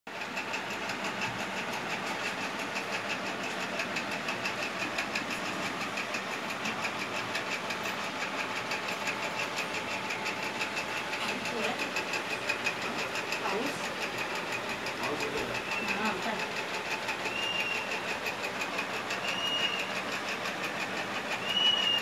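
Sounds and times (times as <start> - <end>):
machine rattling: 0.1 - 22.0.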